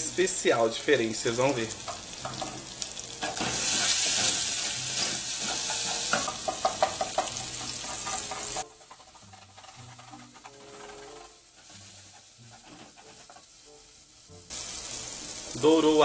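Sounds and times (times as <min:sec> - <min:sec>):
garlic sizzling in oil: 0:00.0 - 0:16.0.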